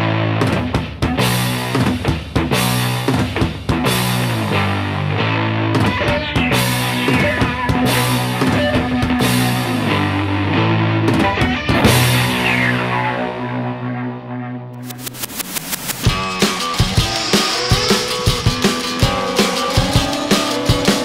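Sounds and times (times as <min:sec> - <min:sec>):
rock backing music: 0:00.0 - 0:21.0.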